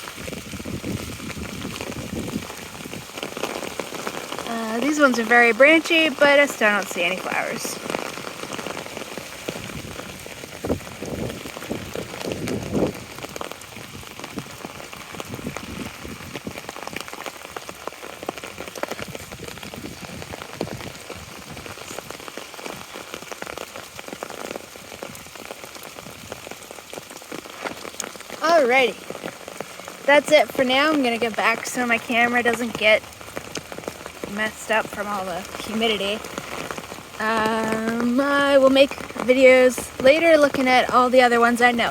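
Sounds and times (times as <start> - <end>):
rain pattering on umbrella: 0.0 - 41.9.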